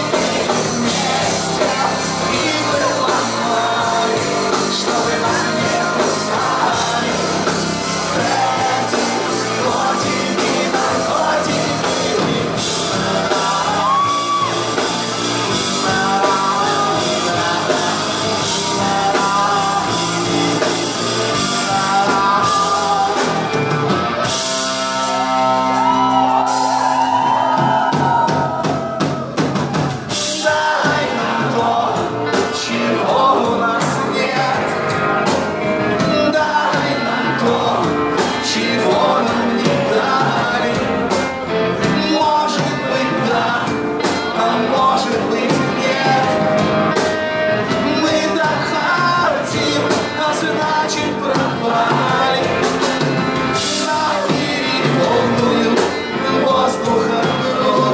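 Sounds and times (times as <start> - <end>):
man singing: 0.0 - 24.6, 30.1 - 57.9
drums: 0.0 - 57.9
live rock band playing: 0.0 - 57.9.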